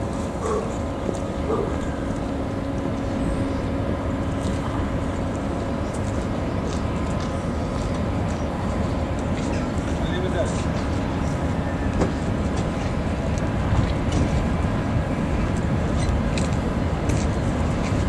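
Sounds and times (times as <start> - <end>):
locomotive low rumble: 0.0 - 18.0
faint steady hum: 1.5 - 18.0.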